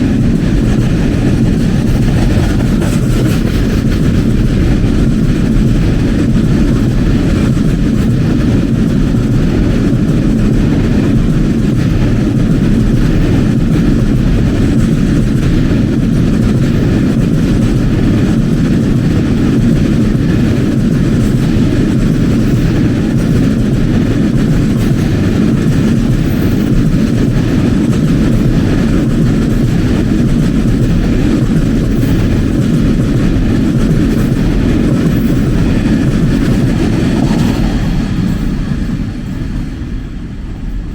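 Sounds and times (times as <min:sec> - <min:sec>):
train running past: 0:00.0 - 0:40.9.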